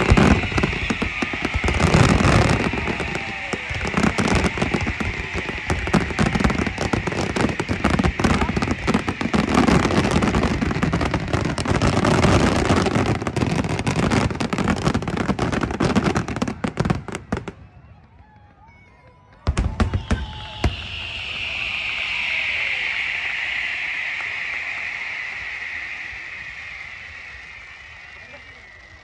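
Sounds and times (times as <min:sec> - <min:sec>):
fireworks bursting: 0:00.0 - 0:18.1, 0:19.4 - 0:29.0
fireworks crackling: 0:00.0 - 0:29.0.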